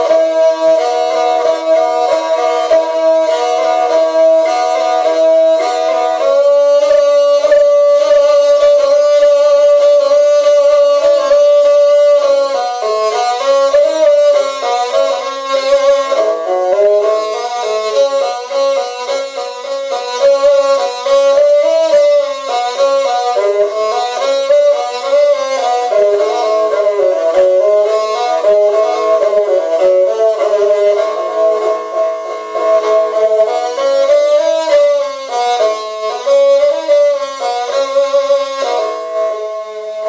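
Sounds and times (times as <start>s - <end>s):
bowed fiddle playing: 0.0s - 40.0s.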